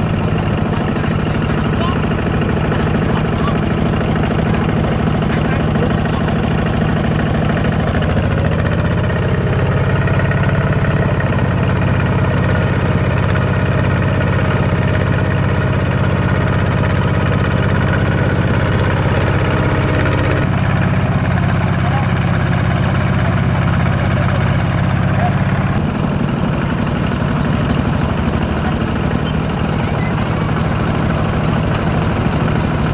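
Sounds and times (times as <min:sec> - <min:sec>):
tractor engine droning: 0:00.0 - 0:32.9.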